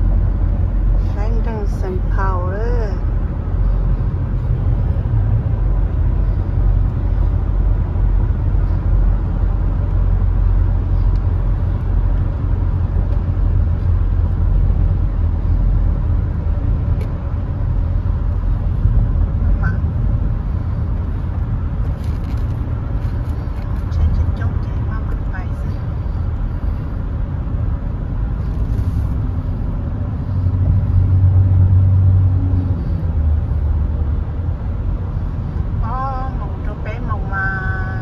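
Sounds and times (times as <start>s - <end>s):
vehicle road rumble: 0.0s - 38.0s.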